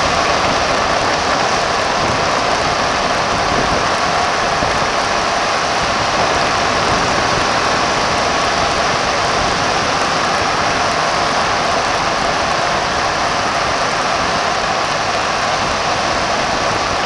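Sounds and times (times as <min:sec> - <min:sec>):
wind rushing: 0:00.0 - 0:14.1
road noise: 0:00.0 - 0:17.0.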